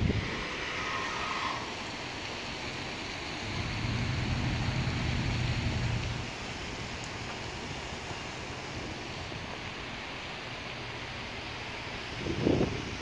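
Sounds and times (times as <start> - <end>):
passing vehicles hiss: 0.0 - 13.0
bus engine rumble: 1.5 - 13.0.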